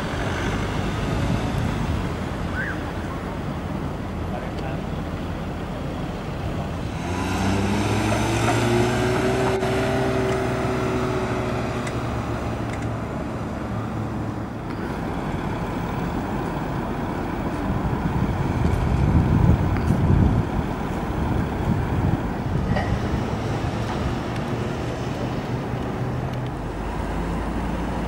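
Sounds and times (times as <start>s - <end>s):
wind gusts on microphone: 0.0s - 4.3s, 6.1s - 28.0s
car engine pulling away: 0.0s - 28.0s
tyre and road noise: 0.0s - 28.0s.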